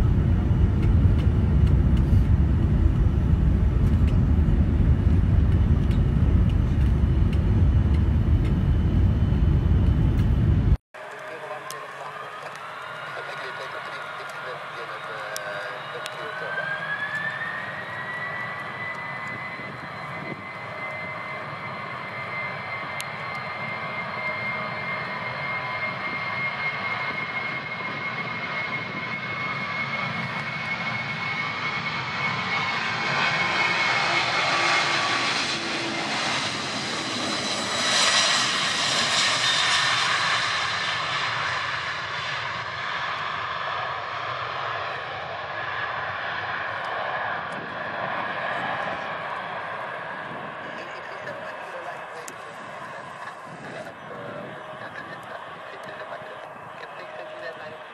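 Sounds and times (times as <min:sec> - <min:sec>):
jet engines whining: 0:00.0 - 0:57.9
jet roaring past: 0:00.0 - 0:57.9.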